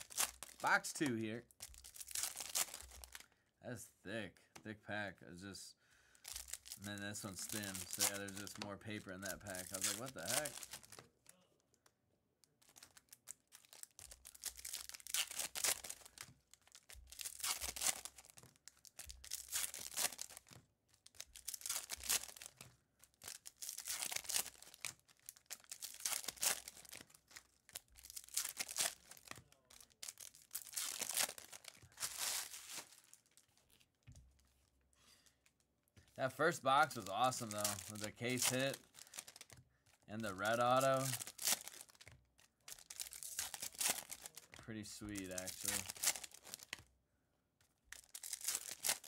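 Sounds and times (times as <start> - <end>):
wrappers tearing and crinkling: 0.0 - 3.2, 6.2 - 11.4, 12.6 - 33.9, 36.2 - 46.8, 47.9 - 49.0.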